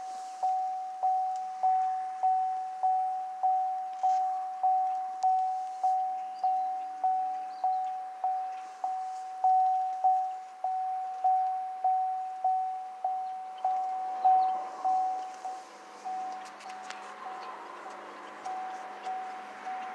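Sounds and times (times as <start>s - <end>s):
vehicle warning chime dinging: 0.0s - 19.9s.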